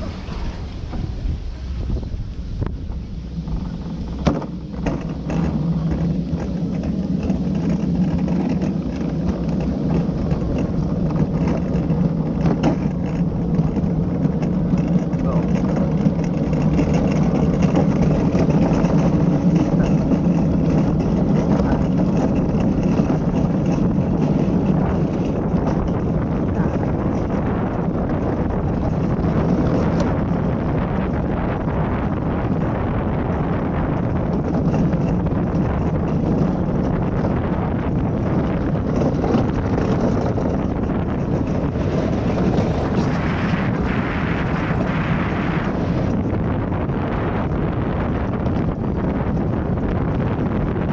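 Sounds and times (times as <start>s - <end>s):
luge cart wheels rolling: 0.0s - 50.9s
wind rushing over microphone: 0.0s - 50.9s.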